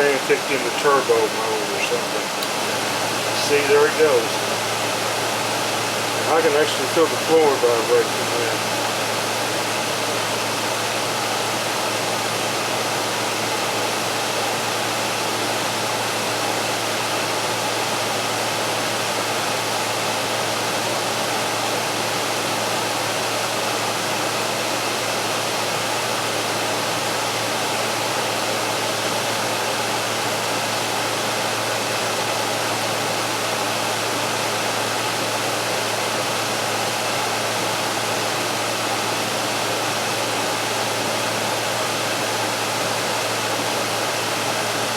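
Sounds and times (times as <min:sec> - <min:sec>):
air conditioner fan running: 0:00.0 - 0:44.9.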